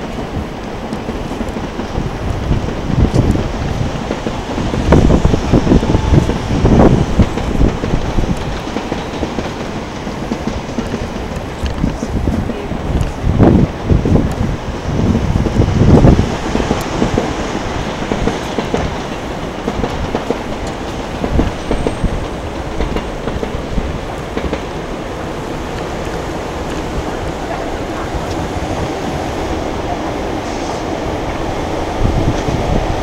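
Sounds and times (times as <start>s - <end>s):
train wheels clacking: 0.0s - 33.0s.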